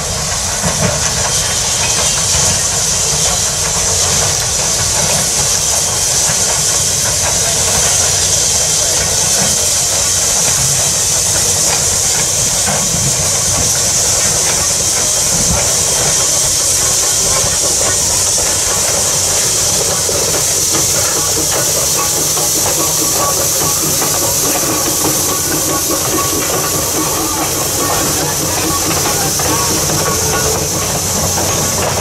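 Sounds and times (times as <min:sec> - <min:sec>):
steam locomotive hissing: 0:00.0 - 0:32.0
train rumbling on rails: 0:00.0 - 0:32.0.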